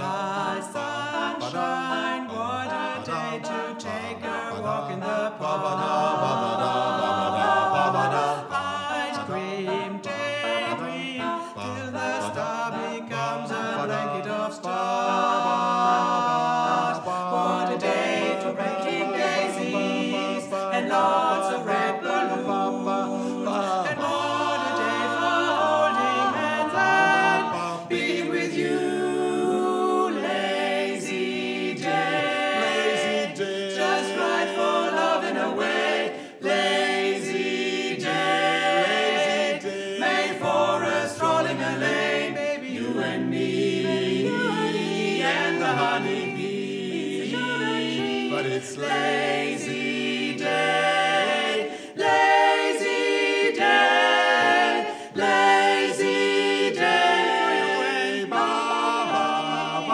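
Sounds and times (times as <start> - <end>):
quartet singing a cappella: 0.0 - 59.9.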